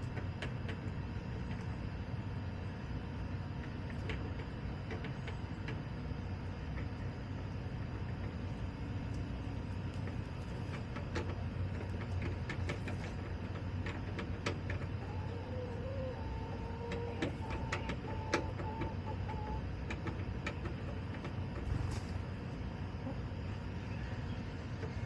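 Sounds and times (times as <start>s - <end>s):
chickens pecking and scratching: 0.0s - 25.0s
steady low hum: 0.0s - 25.0s.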